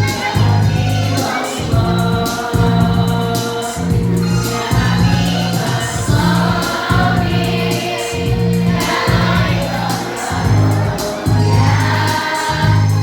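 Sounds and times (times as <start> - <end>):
choir singing with accompaniment: 0.0 - 13.0
low bass line: 0.0 - 13.0.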